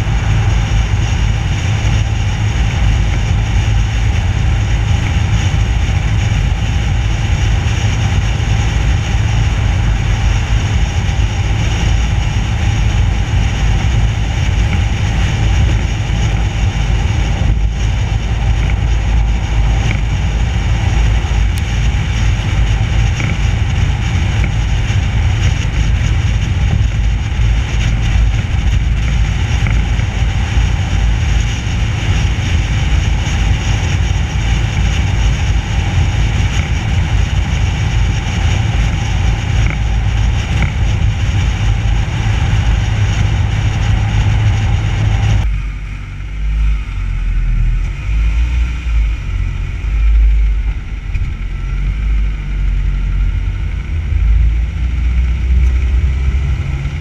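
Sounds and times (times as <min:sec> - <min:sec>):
tyre road noise: 0:00.0 - 0:57.0
wind rumble: 0:00.0 - 0:57.0.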